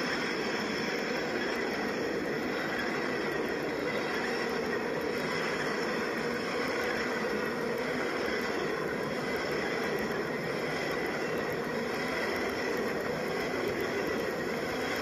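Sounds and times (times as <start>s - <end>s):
model train whirring on rails: 0.0s - 15.0s.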